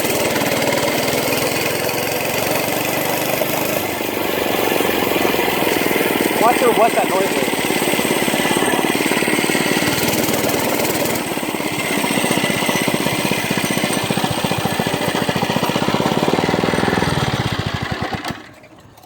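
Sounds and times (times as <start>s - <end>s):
odd engine noise: 0.0s - 19.0s
small engine running: 0.0s - 19.0s.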